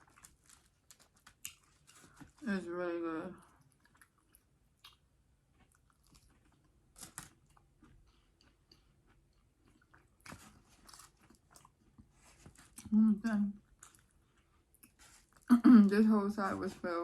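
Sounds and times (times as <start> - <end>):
chewing food: 0.0 - 2.4, 3.4 - 13.0, 13.6 - 15.5.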